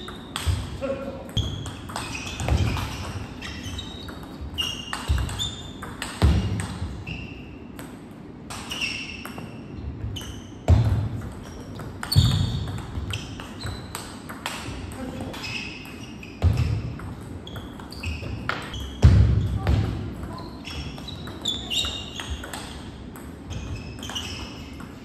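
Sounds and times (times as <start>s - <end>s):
ping-pong ball clicking and bouncing: 0.0s - 25.0s.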